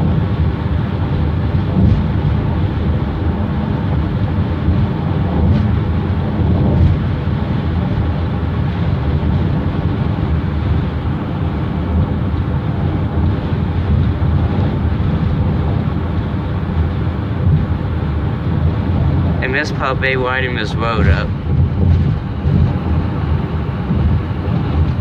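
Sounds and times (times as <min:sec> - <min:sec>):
tyre and road noise: 0:00.0 - 0:25.0.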